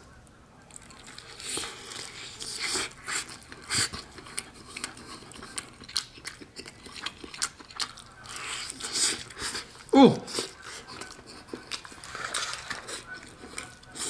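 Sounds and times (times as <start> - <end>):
person chewing chicken: 0.6 - 14.0.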